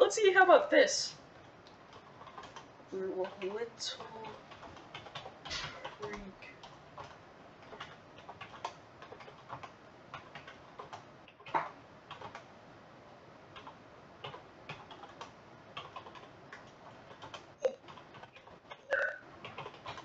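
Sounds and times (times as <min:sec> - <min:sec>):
keyboard typing clicks: 0:01.7 - 0:12.5, 0:13.6 - 0:20.0.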